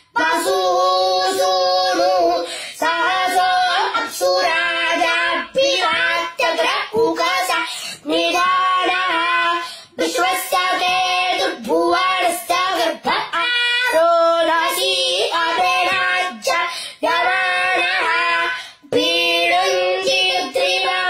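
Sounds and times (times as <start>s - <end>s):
boy chanting: 0.0s - 21.0s.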